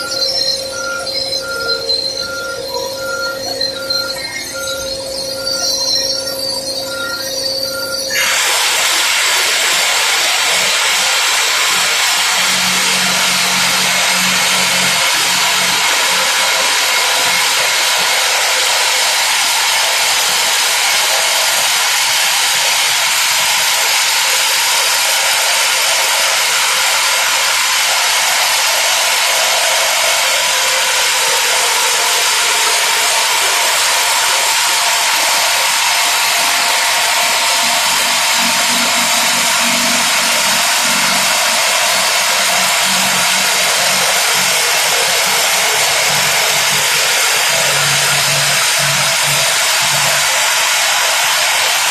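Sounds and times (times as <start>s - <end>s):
rock drill hammering: 8.1s - 51.9s.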